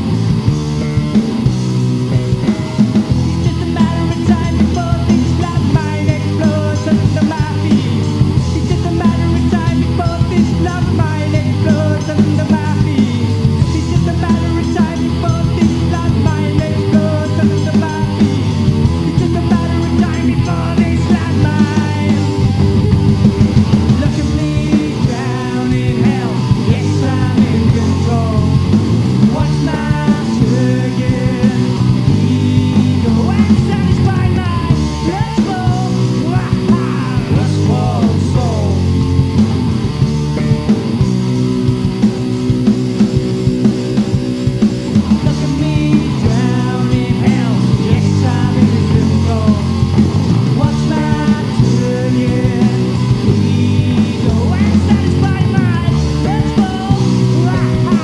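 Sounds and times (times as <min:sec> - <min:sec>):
lead guitar bending pitch: 0:00.0 - 0:58.0
rock band playing: 0:00.0 - 0:58.0.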